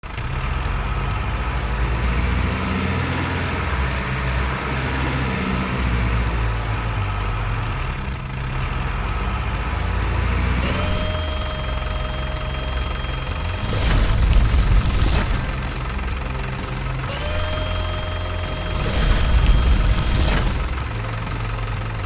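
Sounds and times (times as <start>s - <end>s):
truck diesel engine idling: 0.0s - 22.0s.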